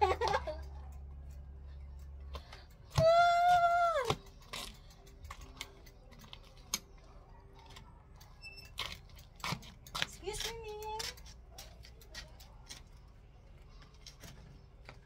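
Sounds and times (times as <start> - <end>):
bike clicking and rattling: 0.0 - 15.0.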